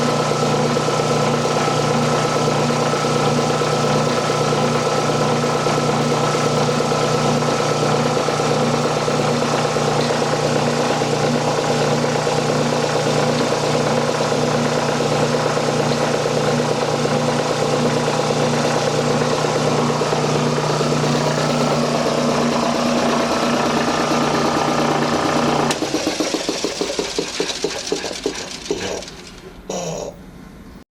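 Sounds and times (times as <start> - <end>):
air compressor running: 0.0 - 30.4.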